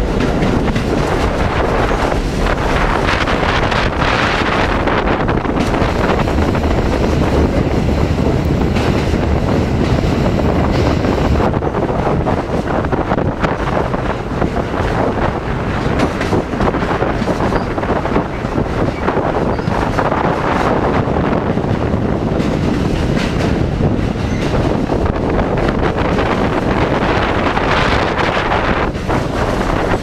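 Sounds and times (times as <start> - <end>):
subway train rushing through tunnel: 0.0 - 30.0
wind buffeting microphone: 0.0 - 30.0.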